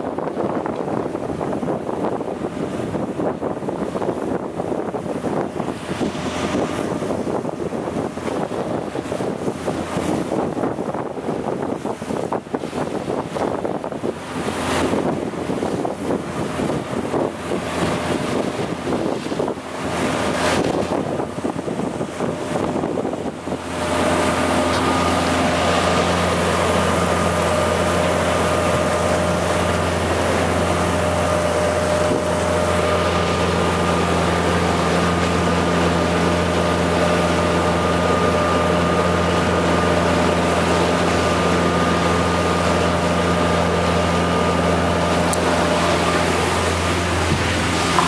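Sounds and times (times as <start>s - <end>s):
motorboat engine droning: 0.0s - 48.0s
water rushing past hull: 0.0s - 48.0s
wind on microphone: 0.0s - 48.0s.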